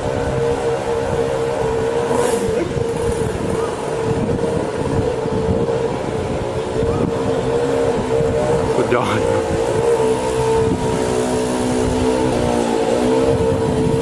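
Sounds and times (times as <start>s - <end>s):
road noise: 0.0s - 14.0s
vehicle engine running: 0.0s - 14.0s
wind noise: 0.0s - 14.0s.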